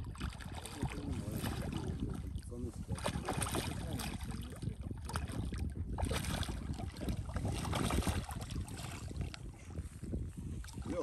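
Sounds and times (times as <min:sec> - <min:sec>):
fish thrashing and splashing: 0:00.0 - 0:09.4
wind rumble on microphone: 0:00.0 - 0:11.0.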